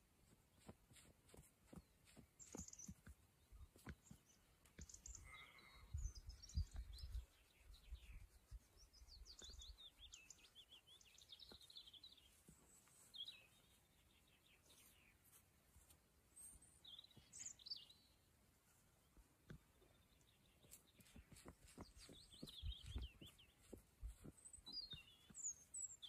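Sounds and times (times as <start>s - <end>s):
small birds chirping: 0.3s - 15.5s, 16.3s - 26.0s.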